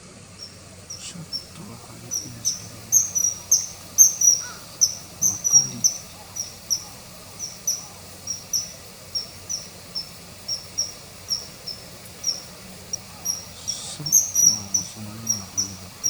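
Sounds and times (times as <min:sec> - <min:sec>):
kingfisher whistled calls: 0:00.4 - 0:16.0.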